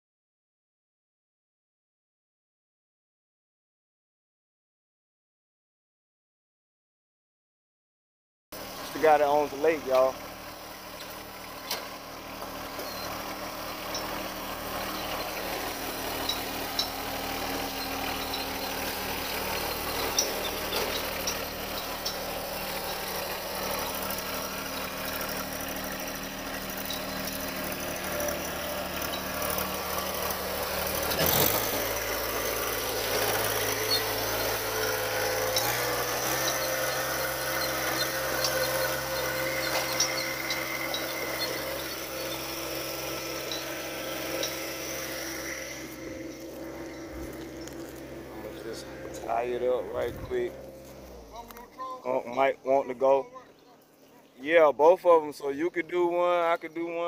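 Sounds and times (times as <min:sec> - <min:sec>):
tractor engine running: 0:08.6 - 0:57.0.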